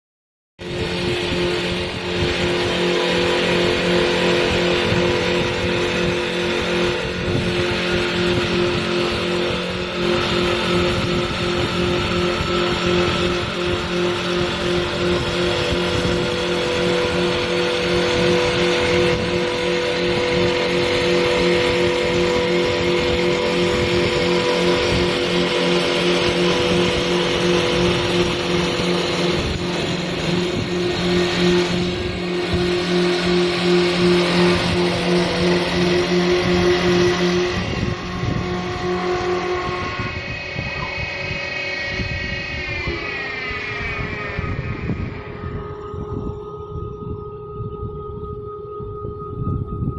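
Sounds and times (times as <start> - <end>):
lathe motor hum and whine: 0.6 - 49.9.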